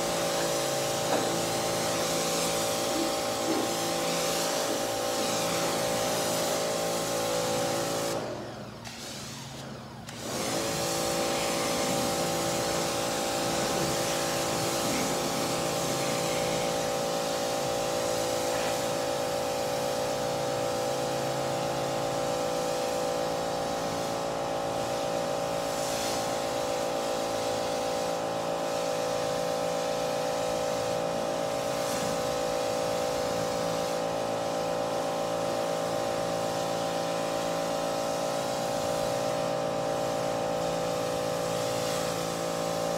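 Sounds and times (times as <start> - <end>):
pressure washer motor whining: 0.0 - 42.9.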